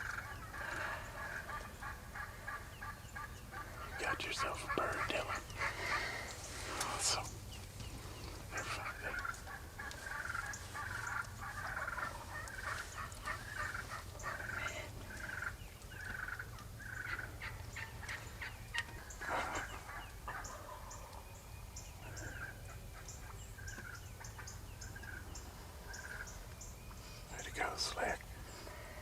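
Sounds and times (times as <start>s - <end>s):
wild turkeys calling: 0.0s - 29.0s.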